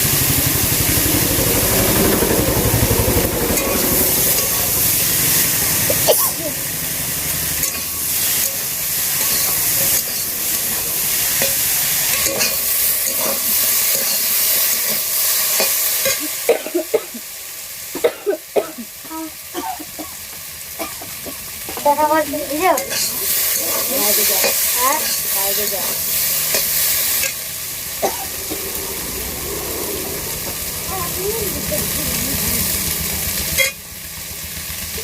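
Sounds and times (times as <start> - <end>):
food sizzling in a pan: 3.6 - 35.0.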